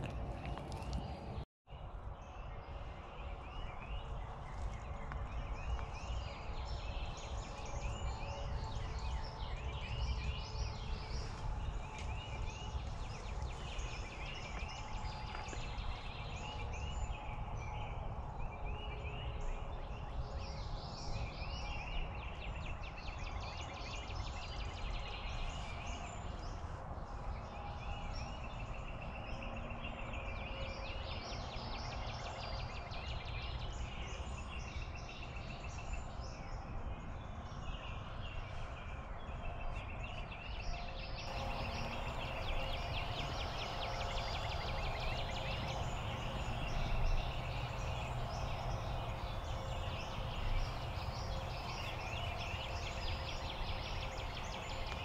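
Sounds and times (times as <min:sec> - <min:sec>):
low background noise: 0:00.0 - 0:55.0
songbirds singing: 0:00.0 - 0:55.0.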